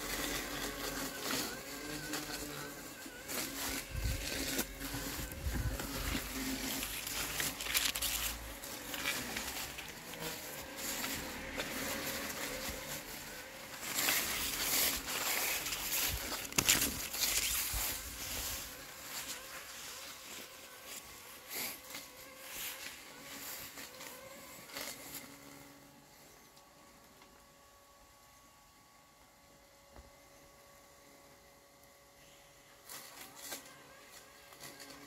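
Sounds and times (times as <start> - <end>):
weeds and leaves rustling: 0.0 - 26.1, 32.2 - 35.0
robot lawn mower motor whine: 0.0 - 27.5, 32.2 - 35.0.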